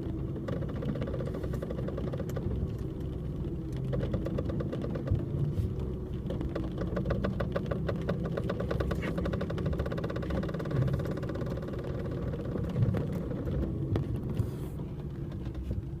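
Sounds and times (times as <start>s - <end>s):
steady low rumble: 0.0s - 16.0s
strut bearings creaking: 0.0s - 16.0s.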